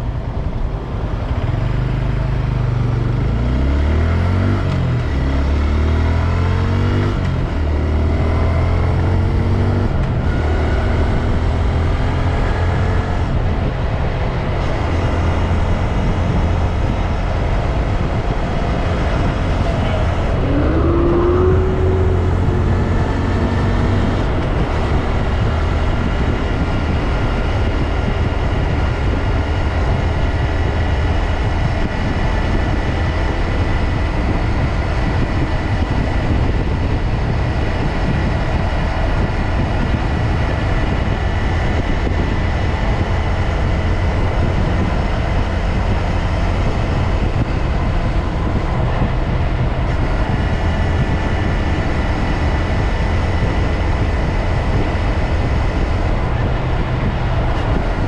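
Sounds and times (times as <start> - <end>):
low wind rumble: 0.0 - 58.0
motorcycle engine running: 0.0 - 58.0.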